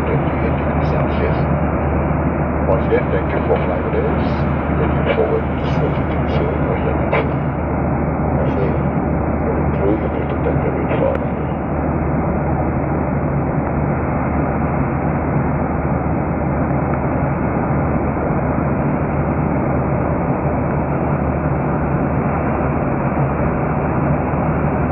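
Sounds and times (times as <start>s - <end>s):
airliner cabin noise: 0.0s - 24.9s.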